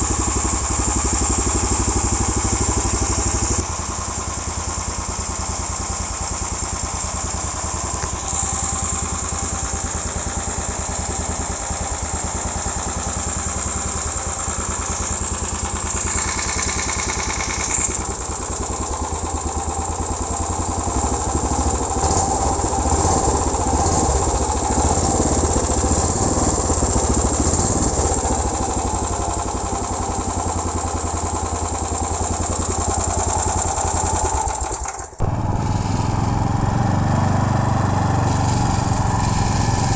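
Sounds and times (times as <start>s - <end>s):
small engine running: 0.0s - 4.5s, 6.0s - 39.9s.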